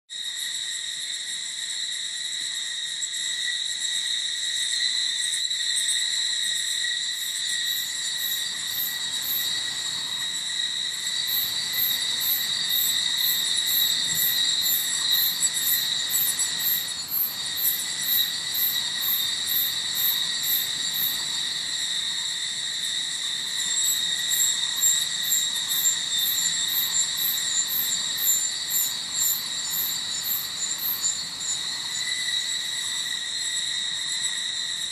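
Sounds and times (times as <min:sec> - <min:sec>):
high pulsed insect chirps: 0:00.1 - 0:34.9
insect buzzing drone: 0:00.1 - 0:34.9.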